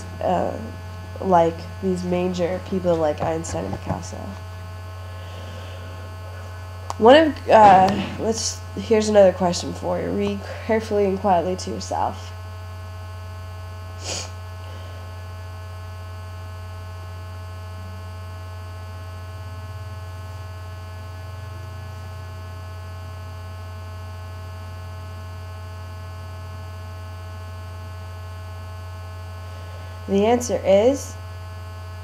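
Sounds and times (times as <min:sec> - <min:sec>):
electrical mains hum: 0:00.0 - 0:32.0
faint steady tones: 0:00.0 - 0:32.0.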